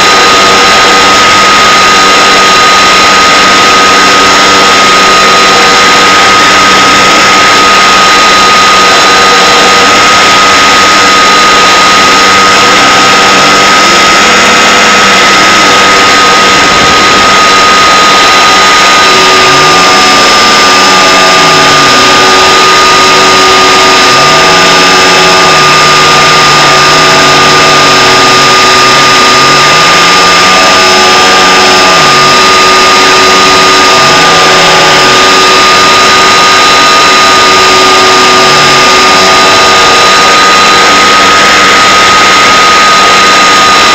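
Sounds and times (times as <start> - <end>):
electric motor high whine: 0.0 - 43.9.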